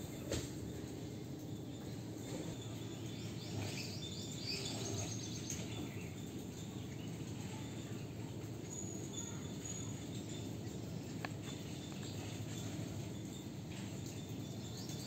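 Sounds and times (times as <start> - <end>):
birds chirping: 0.0 - 15.0
faint insect drone: 0.0 - 15.0.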